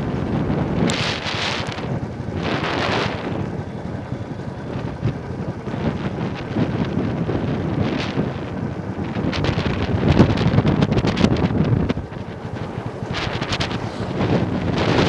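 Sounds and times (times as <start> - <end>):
motorcycle engine rumbling: 0.0 - 15.0
wind buffeting microphone: 0.0 - 15.0.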